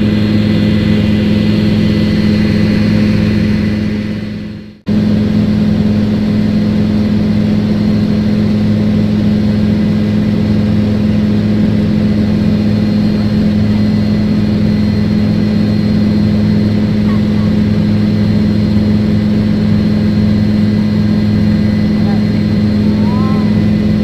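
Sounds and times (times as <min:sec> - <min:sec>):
helicopter engine and rotor hum: 0:00.0 - 0:24.0.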